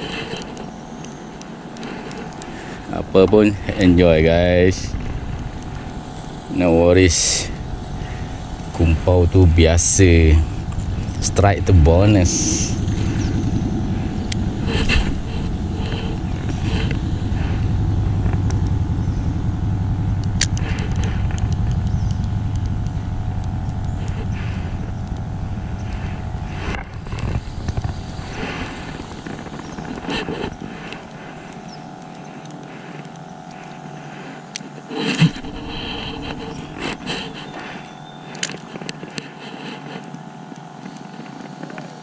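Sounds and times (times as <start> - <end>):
low engine rumble: 0.0 - 42.0
steady hum: 0.0 - 42.0.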